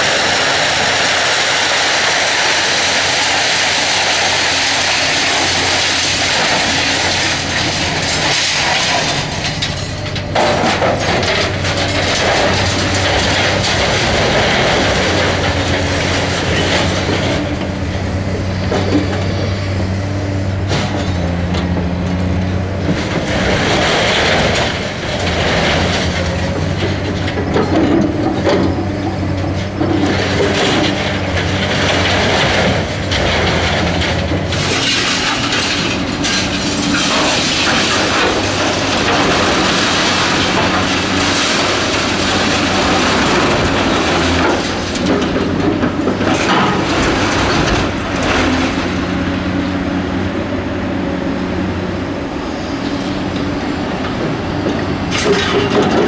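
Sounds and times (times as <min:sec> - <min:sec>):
excavator diesel engine running: 0:00.0 - 0:56.0
metal clanking and scraping: 0:00.8 - 0:19.6, 0:20.5 - 0:49.5, 0:54.0 - 0:56.0.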